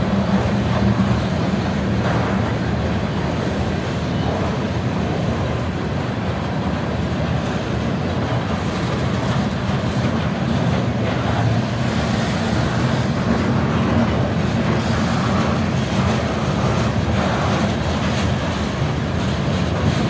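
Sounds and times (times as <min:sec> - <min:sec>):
train rolling past: 0:00.0 - 0:20.0.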